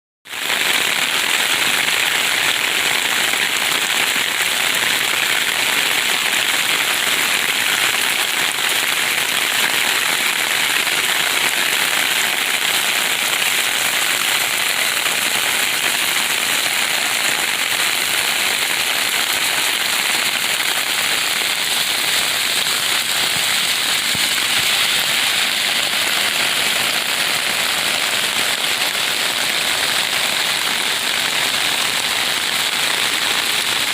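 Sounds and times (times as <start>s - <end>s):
heavy rain: 0.3s - 33.9s.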